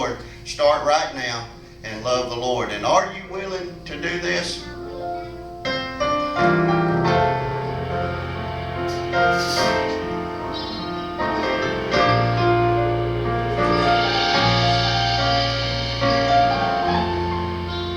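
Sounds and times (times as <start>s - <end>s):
piano playing gospel music: 0.0s - 17.9s.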